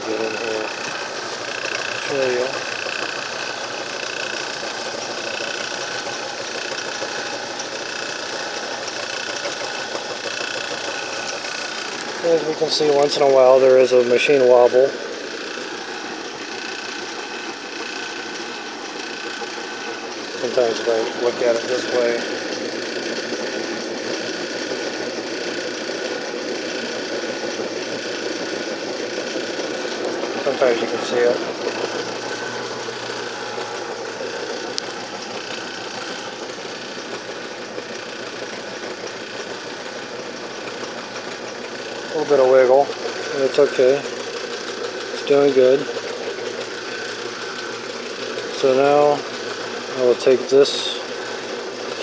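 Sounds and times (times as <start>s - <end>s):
can crusher machine whirring: 0.0s - 52.0s.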